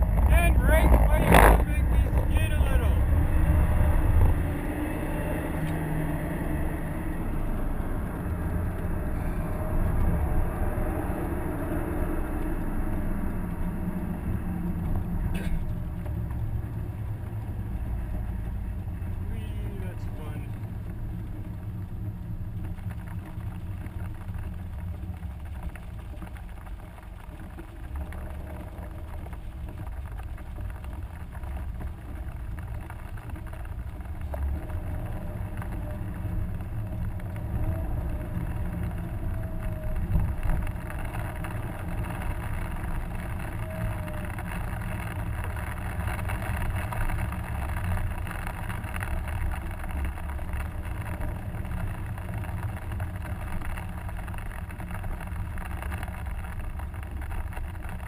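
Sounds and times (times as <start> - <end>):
engine and road rumble in car cabin: 0.0 - 58.0.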